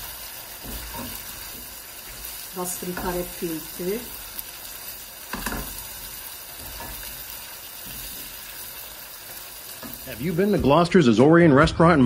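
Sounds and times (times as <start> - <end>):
spatula stirring in a pot: 0.0 - 10.9
meat and onions sizzling in a pot: 0.0 - 11.1.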